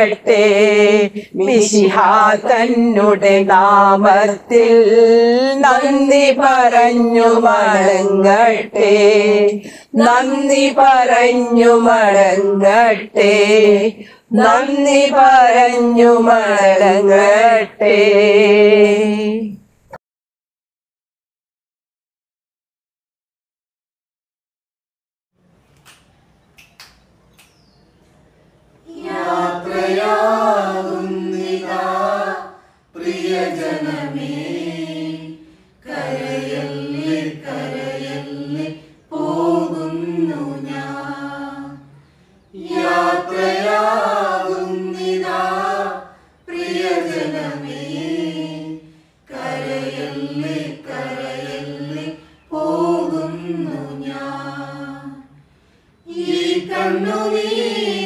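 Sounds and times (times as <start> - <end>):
group singing unaccompanied hymn: 0.0 - 19.6, 28.8 - 58.0.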